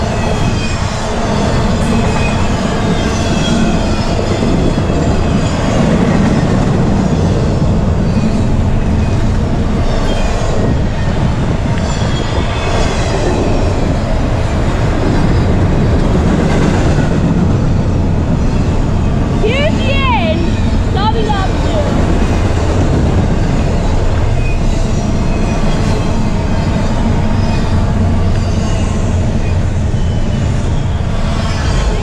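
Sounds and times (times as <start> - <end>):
train wheel squeals: 0.0 - 20.9, 21.7 - 32.0
freight train rumbling past: 0.0 - 32.0.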